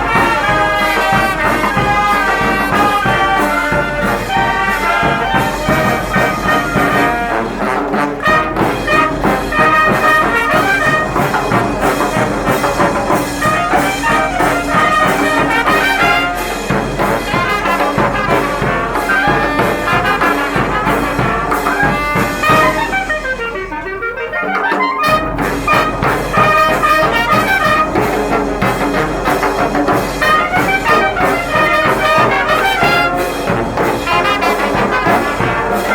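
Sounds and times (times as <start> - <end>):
brass band playing: 0.0 - 35.9.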